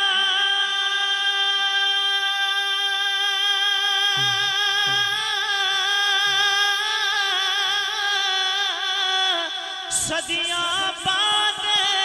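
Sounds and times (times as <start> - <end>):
man singing a long held note: 0.0 - 12.0.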